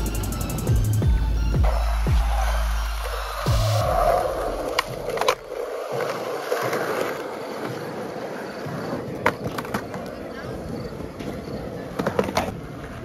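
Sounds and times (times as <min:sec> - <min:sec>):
skateboard wheels rolling on concrete: 0:00.0 - 0:13.0
skateboard clacks: 0:01.6 - 0:13.0.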